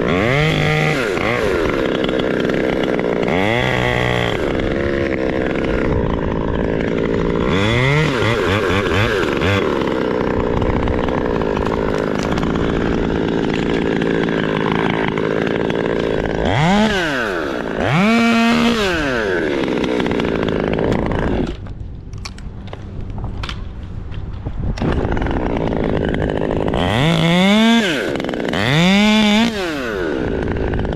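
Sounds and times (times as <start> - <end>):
chainsaw revving: 0.0 - 21.8, 24.7 - 30.9.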